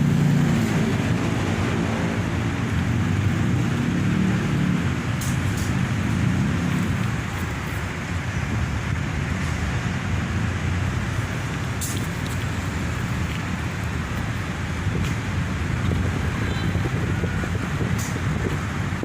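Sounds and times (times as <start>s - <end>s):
vehicle rumble: 0.0s - 19.0s
wind-like noise: 0.0s - 19.0s.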